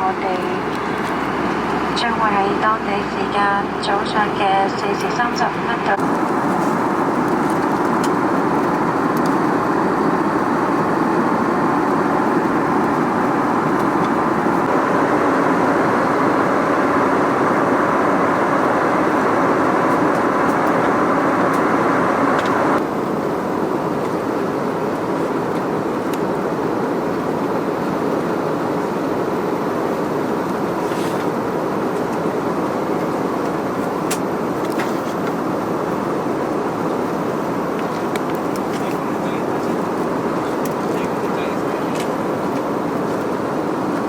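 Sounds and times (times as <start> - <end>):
aircraft cabin rushing noise: 0.0 - 22.8, 30.4 - 44.0.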